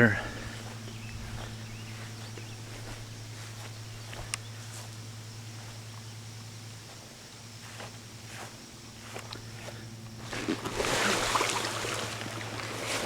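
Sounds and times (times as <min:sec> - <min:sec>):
faint outdoor ticks and rustles: 0:00.0 - 0:13.0
low electric hum: 0:00.0 - 0:13.0.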